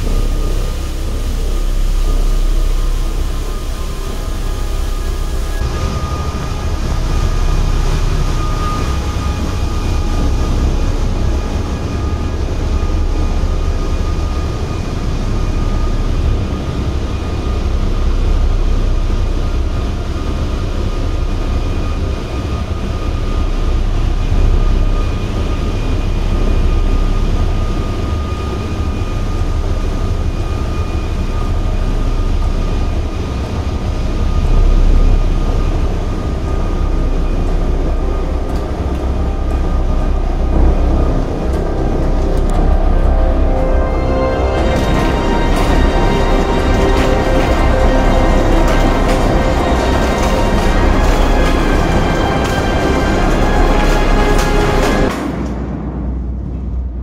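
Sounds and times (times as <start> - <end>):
faint steady whine: 0.0 - 57.0
rail cart wheels rumbling: 0.0 - 57.0.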